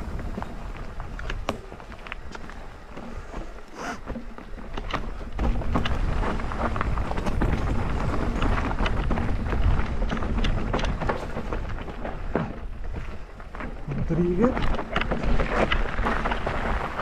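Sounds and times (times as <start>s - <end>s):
bike tyres rattling on rocks: 0.0s - 17.0s.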